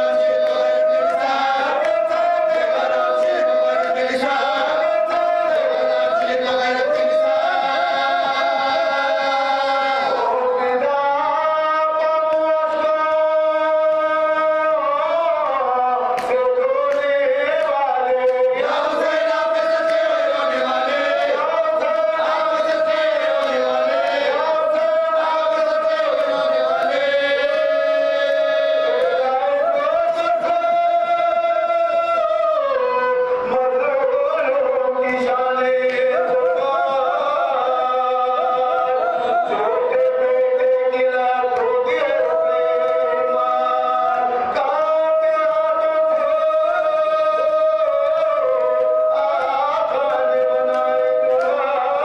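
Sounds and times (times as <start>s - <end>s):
men chanting unaccompanied: 0.0s - 52.0s.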